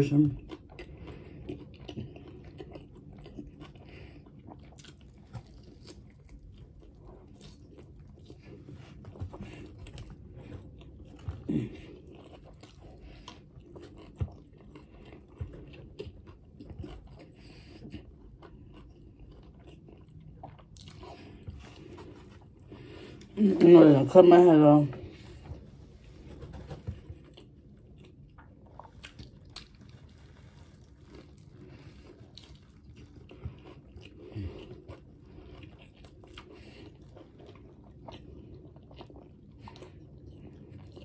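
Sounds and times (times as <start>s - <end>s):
person chewing food: 0.1s - 23.9s, 24.9s - 41.0s.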